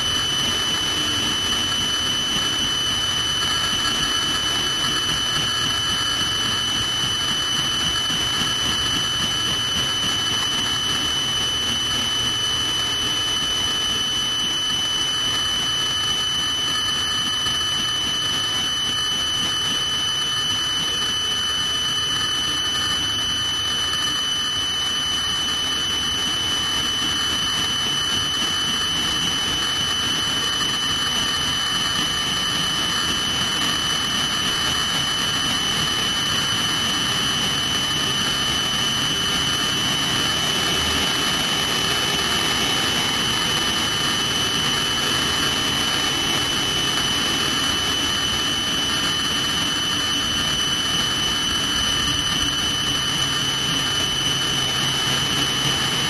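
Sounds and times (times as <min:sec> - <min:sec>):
helicopter turbine whine: 0:00.0 - 0:56.0.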